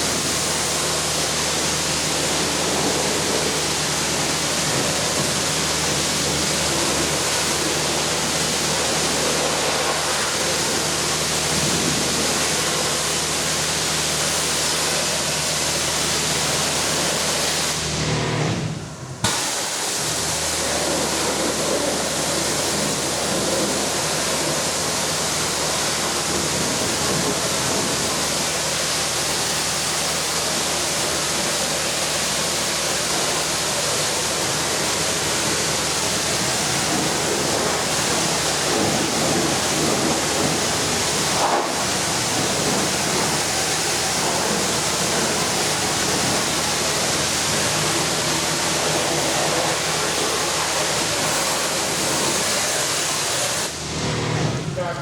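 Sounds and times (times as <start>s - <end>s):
pressure washer spraying: 0.0s - 55.0s.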